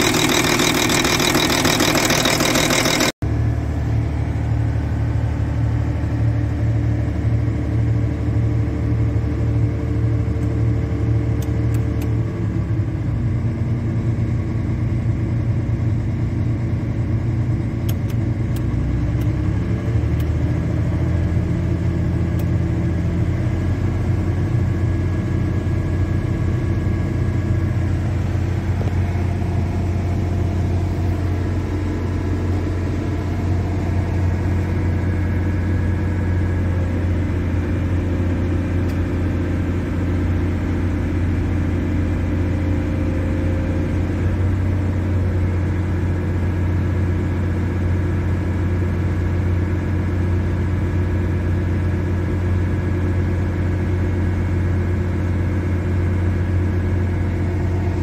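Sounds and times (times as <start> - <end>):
diesel engine humming: 0.0 - 50.9.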